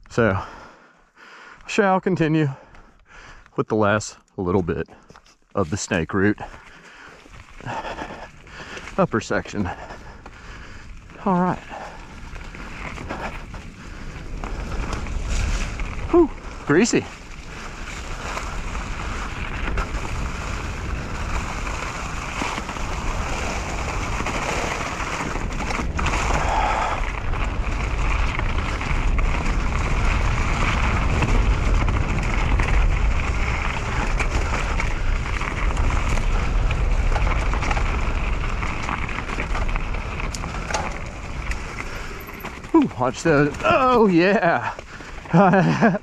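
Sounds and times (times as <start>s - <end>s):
bike tyres rolling over dirt: 0.0s - 46.0s.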